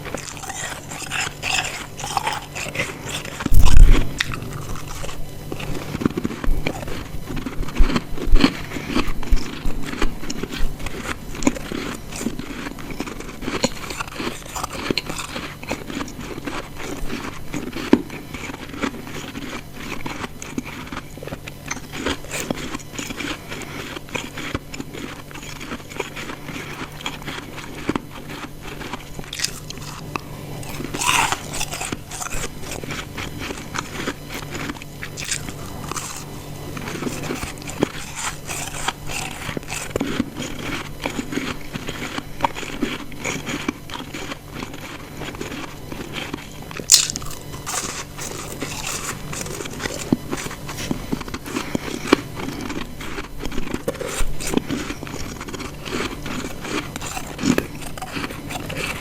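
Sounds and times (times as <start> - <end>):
ice being chewed and crunched: 0.0 - 59.0.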